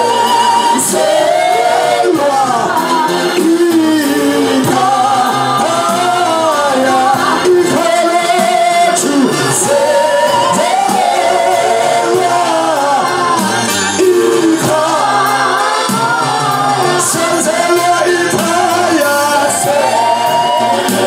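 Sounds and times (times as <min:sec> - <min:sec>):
gospel singing: 0:00.0 - 0:21.0.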